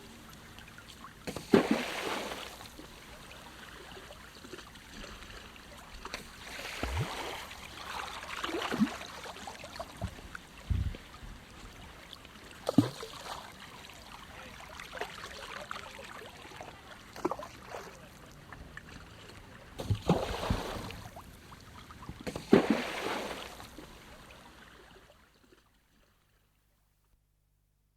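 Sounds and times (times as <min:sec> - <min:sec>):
water splashing from swimming: 0:00.2 - 0:11.1, 0:11.7 - 0:24.0.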